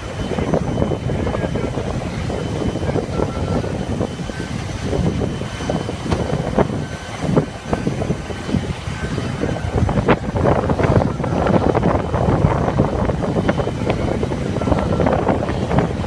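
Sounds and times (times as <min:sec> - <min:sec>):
distant jet engines rumbling: 0:00.0 - 0:16.0
wind buffeting microphone: 0:00.0 - 0:16.0.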